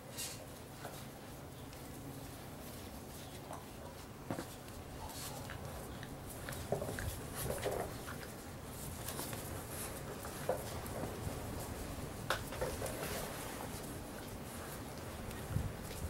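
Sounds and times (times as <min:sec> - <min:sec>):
puppy paws pattering and scuffling: 0:00.0 - 0:16.0.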